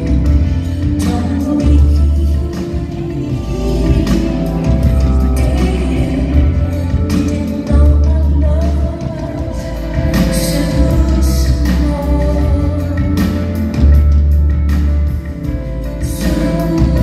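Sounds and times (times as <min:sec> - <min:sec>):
keyboard: 0:00.0 - 0:17.0
woman singing: 0:00.0 - 0:17.0.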